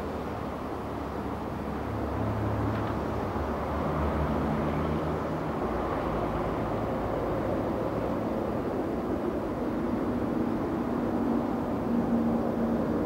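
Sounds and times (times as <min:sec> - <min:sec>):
train rumbling over bridge: 0:00.0 - 0:13.0.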